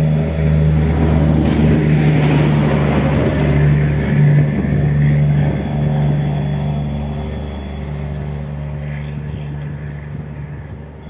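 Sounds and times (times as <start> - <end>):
railcar engine drone: 0.0 - 11.0
track rumble: 0.0 - 11.0.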